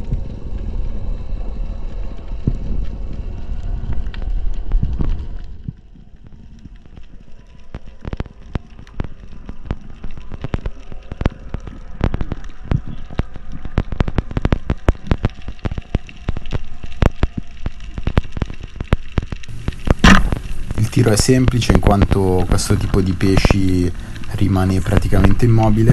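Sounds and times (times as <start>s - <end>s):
faint steady hum: 0.0s - 25.9s
underwater crackling clicks: 3.8s - 25.9s.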